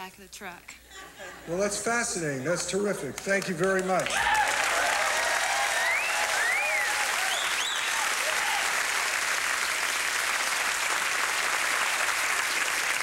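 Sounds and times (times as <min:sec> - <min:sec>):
audience applauding: 0:02.5 - 0:13.0.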